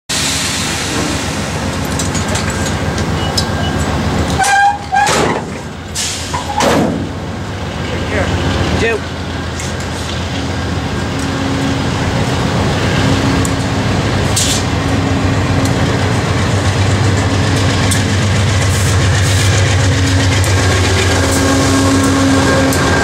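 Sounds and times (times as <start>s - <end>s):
diesel locomotive: 0.1s - 23.0s
train wheels rumbling on rails: 0.1s - 23.0s
clickety-clack over rail joints: 1.0s - 7.2s, 7.8s - 23.0s.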